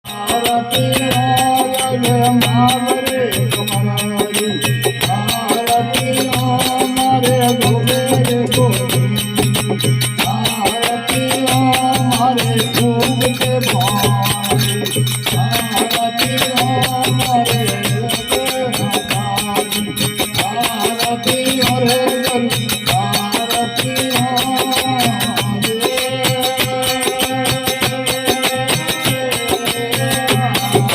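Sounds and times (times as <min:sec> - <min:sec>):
fast rattling percussion: 0:00.0 - 0:30.9.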